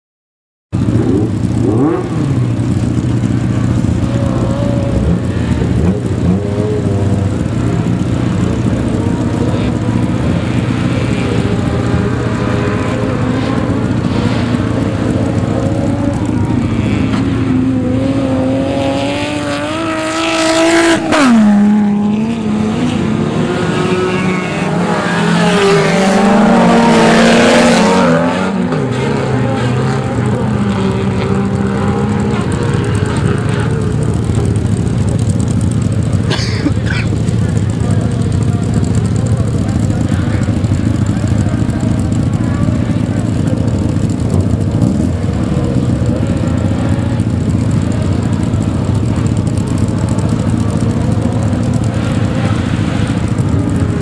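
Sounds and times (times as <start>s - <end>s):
race car engines revving: 0.8s - 54.0s.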